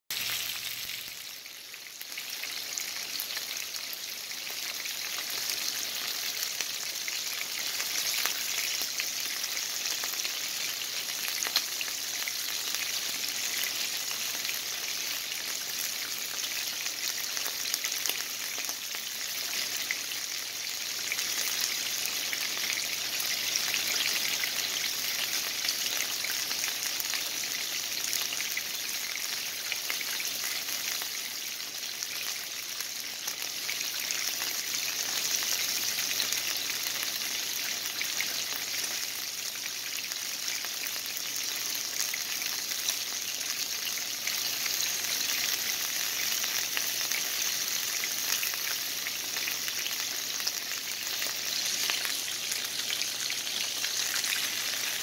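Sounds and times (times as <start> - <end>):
meat sizzling in a pan: 0.1 - 55.0.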